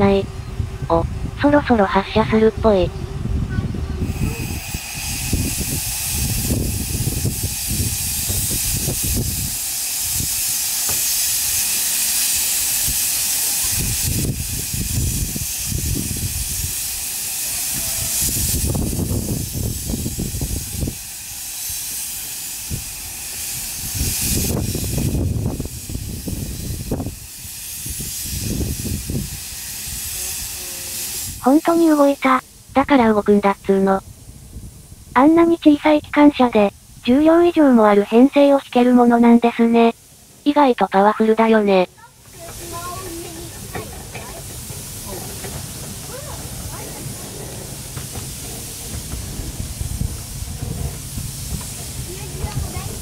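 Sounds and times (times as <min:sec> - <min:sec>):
steam hissing: 0:00.0 - 0:53.0
steam locomotive exhaust chuffs: 0:00.0 - 0:53.0.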